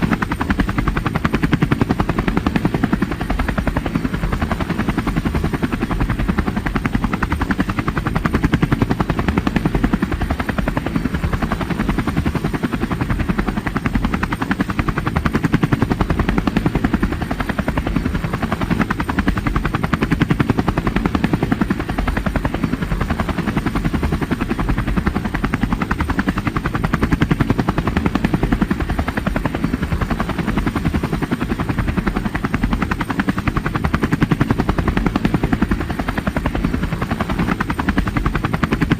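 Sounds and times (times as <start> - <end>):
helicopter rotor blades beating: 0.0 - 38.9.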